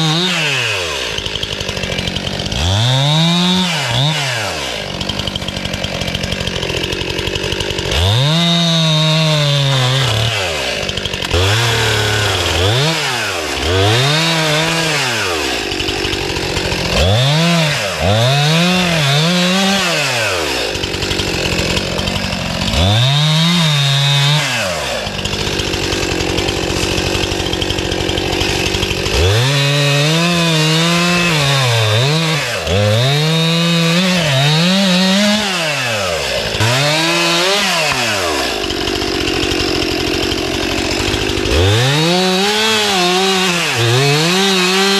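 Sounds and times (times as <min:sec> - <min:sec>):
chainsaw revving and idling: 0:00.0 - 0:44.9.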